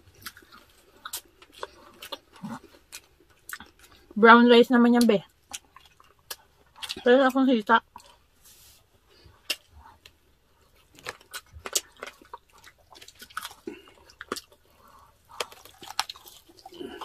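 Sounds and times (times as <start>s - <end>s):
chewing and biting: 0.0s - 4.2s, 5.0s - 7.2s, 9.1s - 17.0s.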